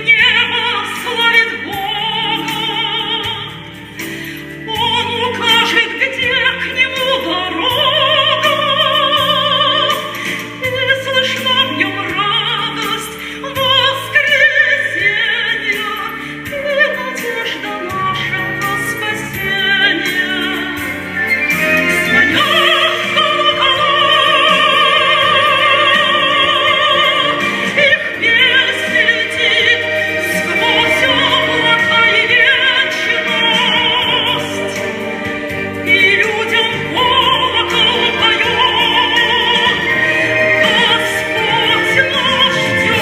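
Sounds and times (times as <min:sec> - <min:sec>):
woman singing classical style: 0:00.0 - 0:03.8, 0:04.6 - 0:43.0
instrumental accompaniment: 0:00.0 - 0:43.0.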